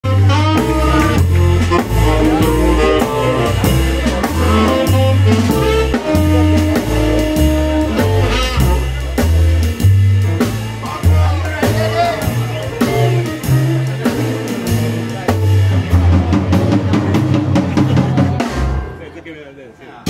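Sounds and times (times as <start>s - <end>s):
walking bass line: 0.0s - 19.0s
guitar melody lines: 0.0s - 19.5s
jazz combo playing: 0.0s - 20.0s.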